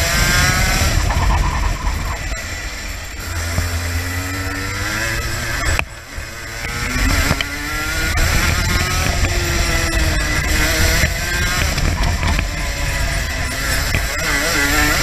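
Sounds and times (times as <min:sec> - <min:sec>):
racing kart engine: 0:00.0 - 0:15.0
wind rumble on microphone: 0:00.0 - 0:15.0.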